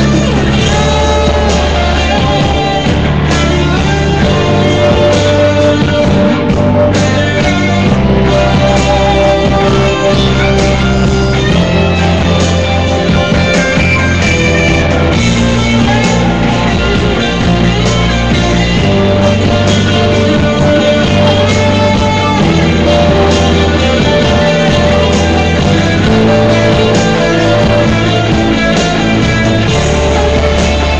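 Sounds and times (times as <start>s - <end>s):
loud rock music: 0.0s - 30.9s.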